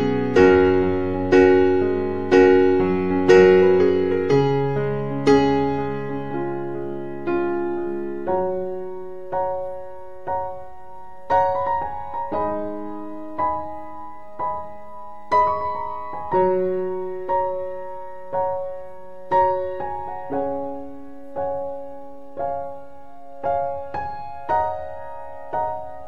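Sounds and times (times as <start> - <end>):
gentle piano chords: 0.0 - 26.0.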